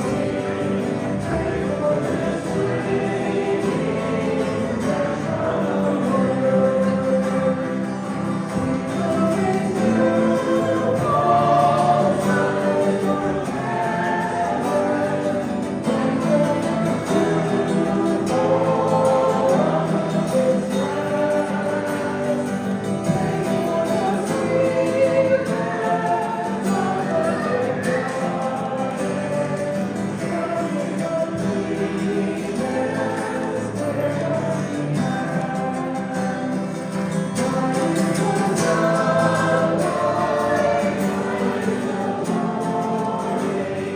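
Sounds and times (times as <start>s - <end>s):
congregation singing a hymn: 0.0s - 43.9s.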